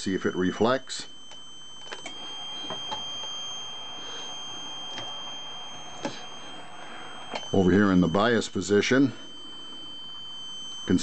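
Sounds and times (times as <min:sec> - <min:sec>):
high-pitched transmitter whine: 0:00.0 - 0:11.0.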